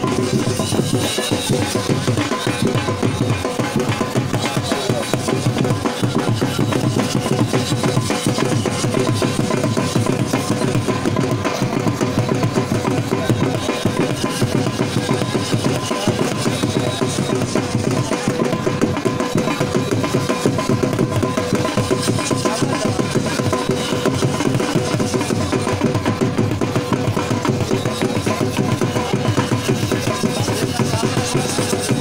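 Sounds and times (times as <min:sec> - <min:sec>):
fast continuous drumming: 0:00.0 - 0:32.0.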